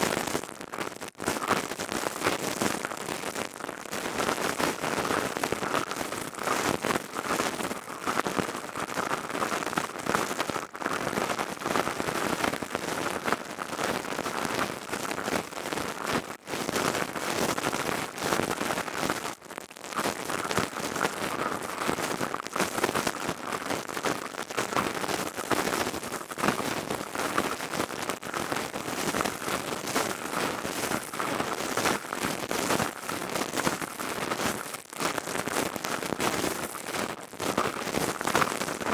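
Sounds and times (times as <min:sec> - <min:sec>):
crystal tube crackling patter: 0:00.0 - 0:38.9.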